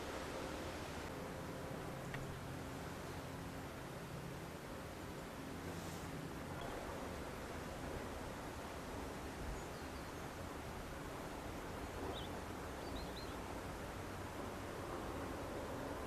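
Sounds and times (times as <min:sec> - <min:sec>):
wind with rustling: 0:00.0 - 0:16.0.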